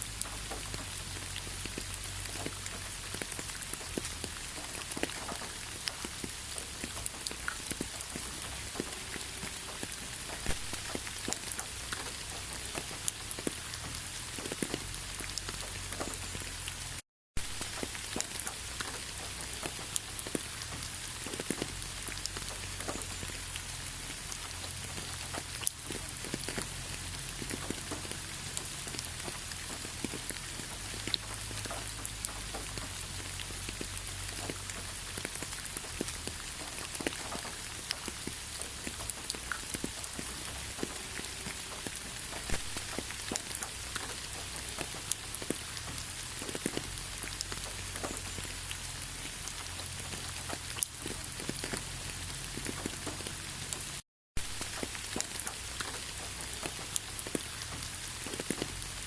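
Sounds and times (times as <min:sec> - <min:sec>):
rain falling: 0:00.0 - 0:59.0
raindrops ticking: 0:00.0 - 0:59.0.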